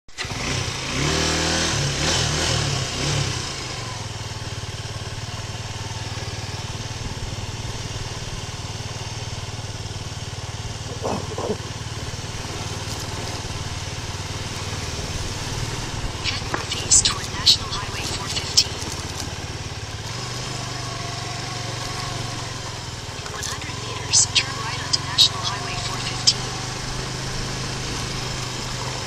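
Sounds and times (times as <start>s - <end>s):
motorcycle engine revving: 0.1s - 29.0s.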